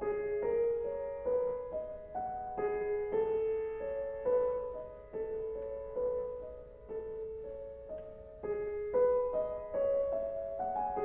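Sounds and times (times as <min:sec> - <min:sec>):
slow classical piano melody: 0:00.0 - 0:11.0.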